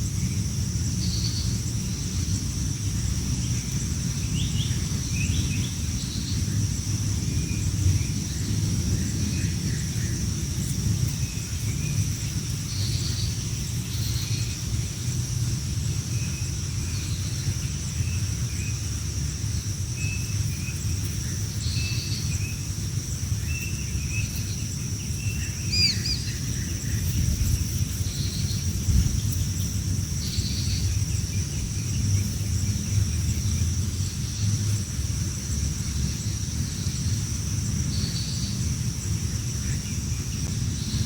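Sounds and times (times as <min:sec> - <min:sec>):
high insect buzz: 0:00.0 - 0:41.0
birds chirping: 0:00.2 - 0:34.8.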